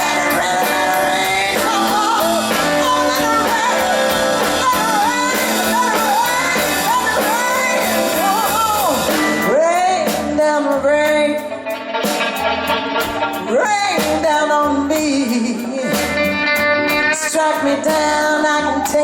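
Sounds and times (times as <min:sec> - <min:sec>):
woman singing: 0:00.0 - 0:11.8, 0:13.3 - 0:19.0
blues band playing: 0:00.0 - 0:19.0.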